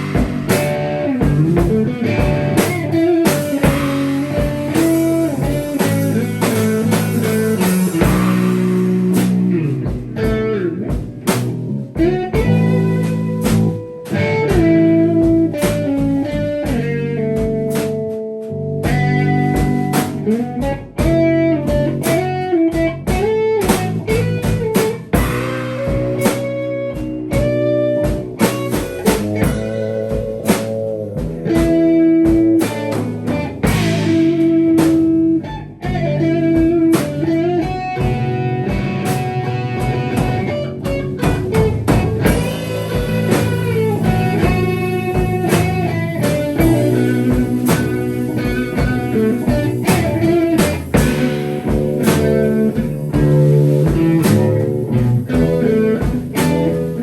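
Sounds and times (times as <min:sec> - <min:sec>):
sharp drum strikes: 0:00.0 - 0:18.2, 0:18.8 - 0:57.0
drum kit: 0:00.0 - 0:57.0
guitar bending notes: 0:00.0 - 0:57.0.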